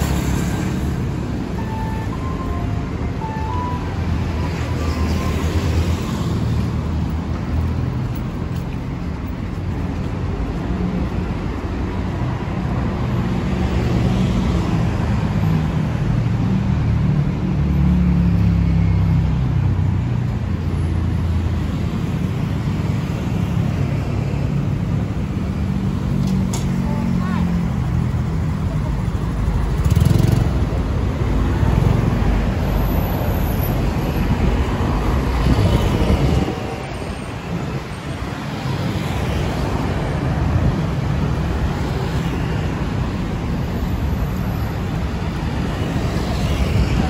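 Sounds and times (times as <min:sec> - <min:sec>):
road traffic rumble: 0:00.0 - 0:47.0.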